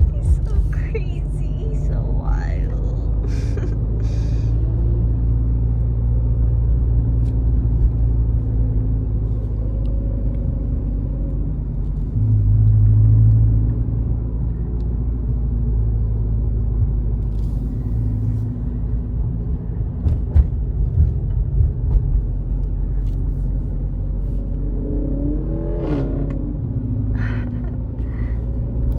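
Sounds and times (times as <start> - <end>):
car engine: 0.0 - 28.9
road rumble: 0.0 - 28.9.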